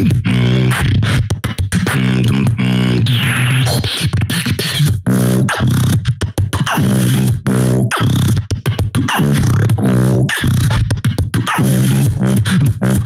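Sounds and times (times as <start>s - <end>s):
beatboxing bass tones: 0.0s - 13.0s
mouth percussion: 0.0s - 13.0s.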